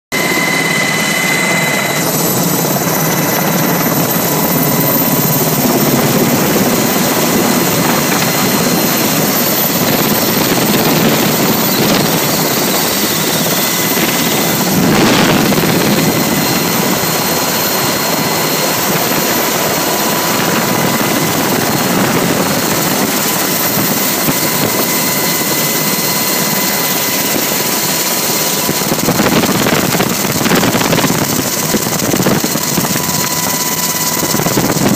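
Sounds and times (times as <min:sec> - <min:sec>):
helicopter rotor and engines: 0:00.1 - 0:34.9.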